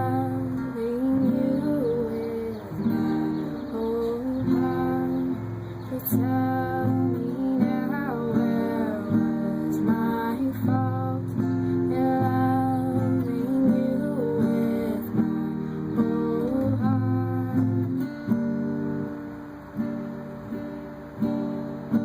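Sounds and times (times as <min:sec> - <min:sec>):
woman singing: 0:00.0 - 0:18.7
acoustic guitar strumming chords: 0:00.0 - 0:22.0.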